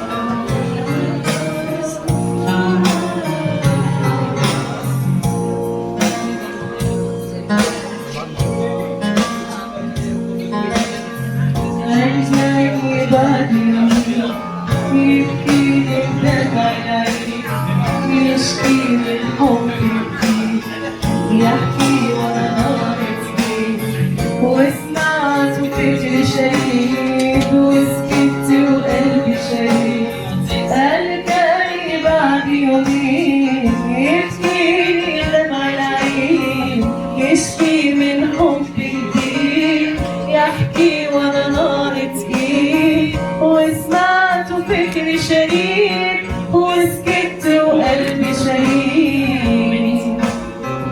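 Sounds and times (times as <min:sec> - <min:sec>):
shawm melody: 0:00.0 - 0:50.9.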